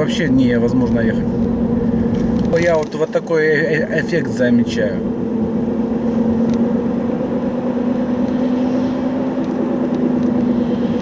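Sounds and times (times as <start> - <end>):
droning hum in car cabin: 0.0 - 11.0
road noise: 0.0 - 11.0.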